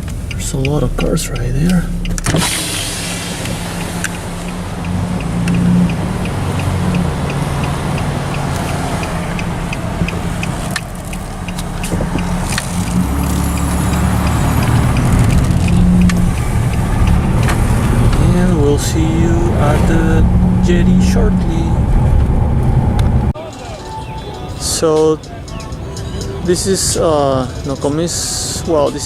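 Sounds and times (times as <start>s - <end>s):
car engine and road hum: 0.0s - 29.0s
light regular ticking: 0.0s - 29.0s.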